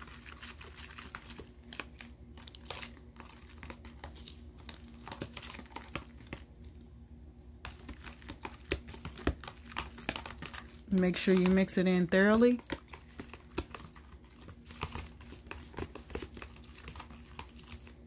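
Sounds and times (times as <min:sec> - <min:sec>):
spoon stirring thick liquid: 0:00.0 - 0:06.8, 0:07.5 - 0:18.0.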